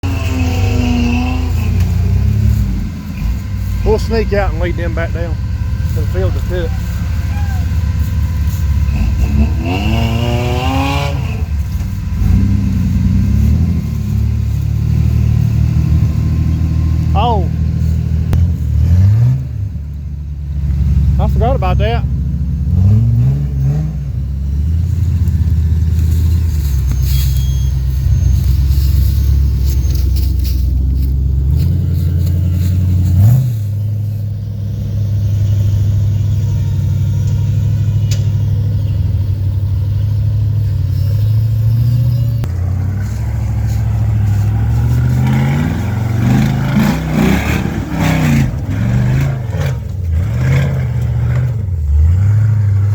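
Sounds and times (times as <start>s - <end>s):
car engine revving under load: 0.0s - 52.9s.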